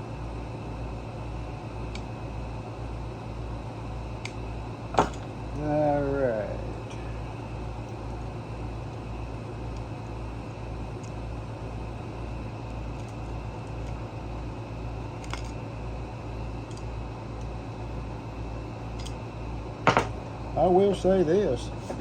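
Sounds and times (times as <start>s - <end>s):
pulsing low machine hum: 0.0s - 22.0s.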